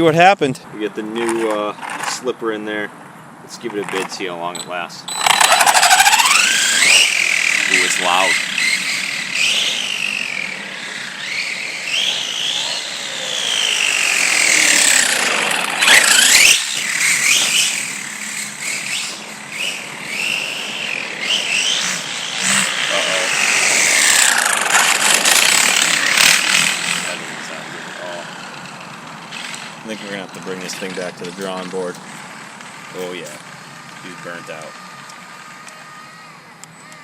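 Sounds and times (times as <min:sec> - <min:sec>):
rc car motor whining: 0:05.1 - 0:37.0.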